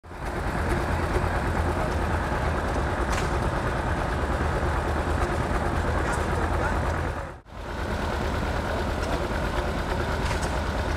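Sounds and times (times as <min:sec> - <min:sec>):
tractor engine low rumble: 0:00.0 - 0:10.9.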